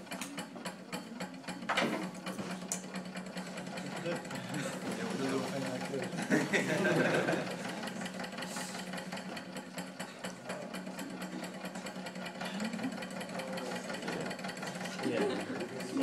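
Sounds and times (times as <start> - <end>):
stirling engine clattering: 0.0 - 16.0.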